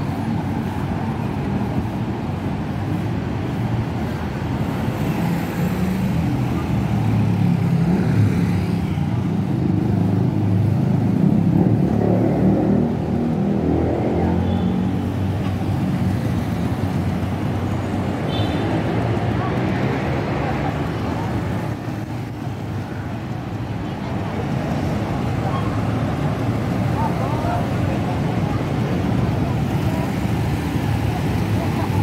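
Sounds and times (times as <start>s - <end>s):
cars and motorcycles passing: 0.0s - 32.0s.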